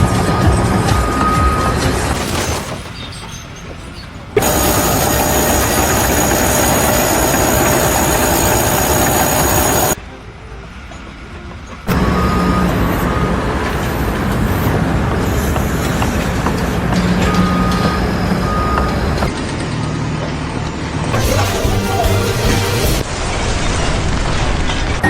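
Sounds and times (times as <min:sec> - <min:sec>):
heavy machinery running: 0:00.0 - 0:25.0
engine humming low: 0:02.8 - 0:23.3.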